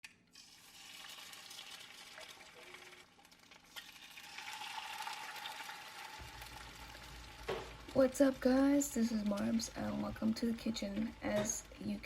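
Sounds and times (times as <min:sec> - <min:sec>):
food sizzling in a frying pan: 0:00.3 - 0:12.0.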